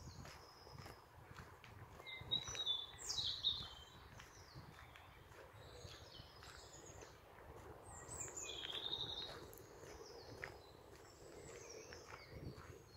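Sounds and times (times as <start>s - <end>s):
woodland birds singing: 0.0s - 12.9s.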